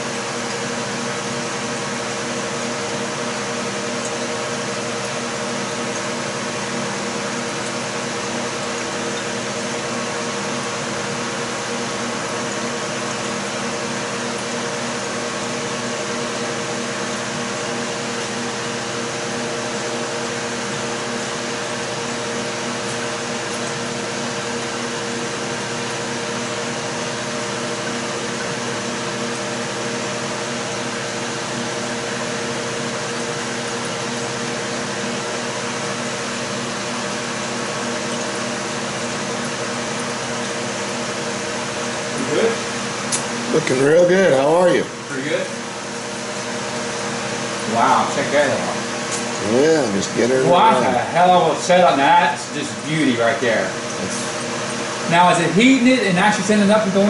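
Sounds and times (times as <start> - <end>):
steady mechanical hum with hiss: 0.0 - 57.0.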